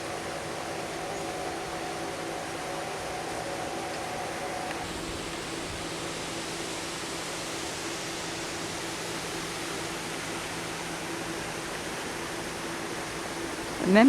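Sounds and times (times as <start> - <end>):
faint steady hum: 0.0 - 14.0
river water pouring over dam: 0.0 - 14.0.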